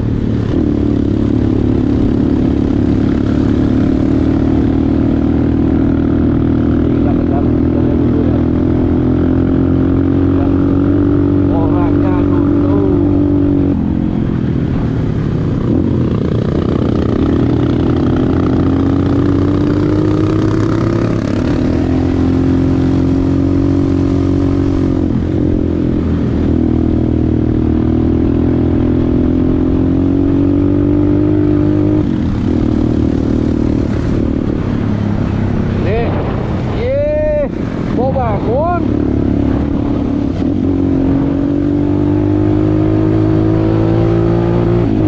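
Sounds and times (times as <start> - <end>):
motorcycle engine running: 0.0 - 36.7.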